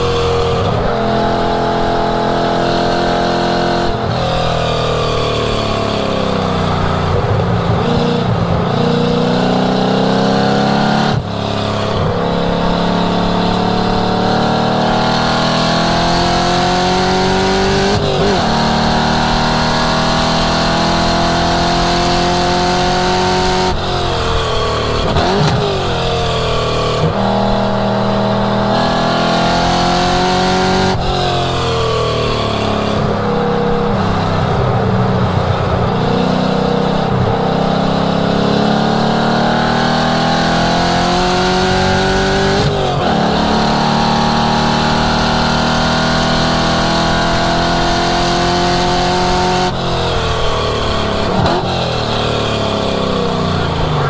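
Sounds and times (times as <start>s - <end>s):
car engine revving on track: 0.0s - 54.0s.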